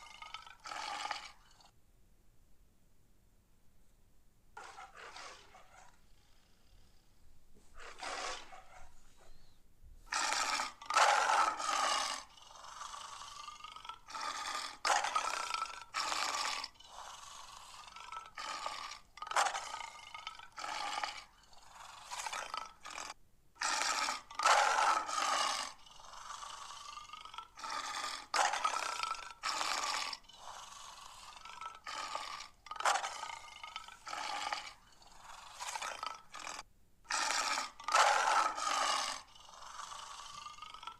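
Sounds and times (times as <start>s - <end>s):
lion growling and roaring: 0.0s - 1.7s, 4.6s - 6.6s, 7.8s - 9.0s, 10.1s - 40.9s.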